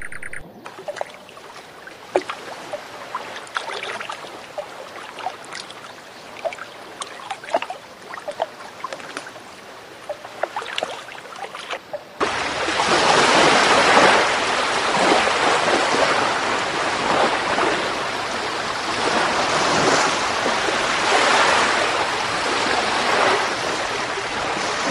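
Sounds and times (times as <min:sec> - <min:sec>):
rushing water: 0:00.0 - 0:24.9
water lapping and dripping: 0:00.0 - 0:24.9.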